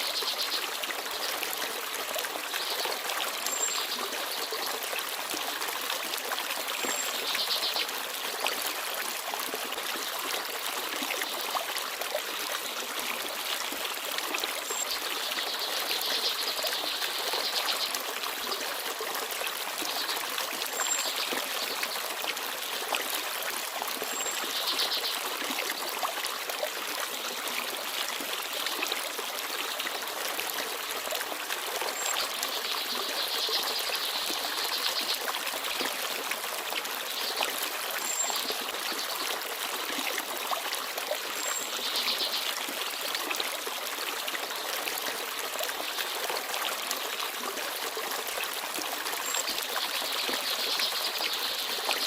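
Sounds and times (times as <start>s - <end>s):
stream babbling: 0.0s - 52.0s.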